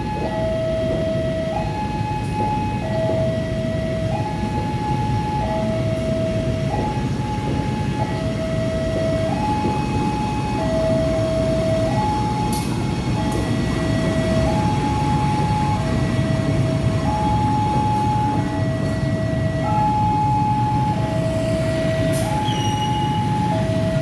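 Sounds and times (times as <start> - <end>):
train rumble: 0.0 - 24.0
two-tone electronic warning alarm: 0.0 - 24.0.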